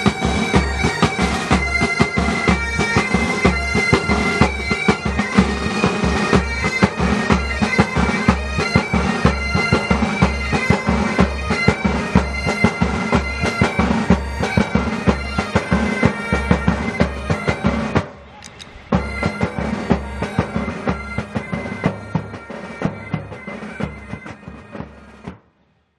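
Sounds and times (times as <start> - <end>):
bagpipes playing a tune: 0.0 - 25.3
drum beats: 0.0 - 25.4.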